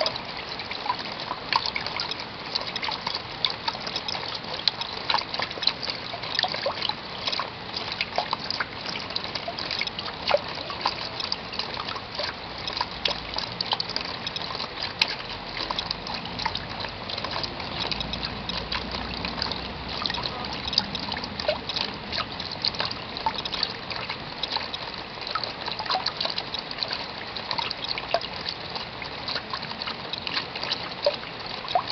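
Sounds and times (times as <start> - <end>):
rain pattering: 0.0 - 31.9.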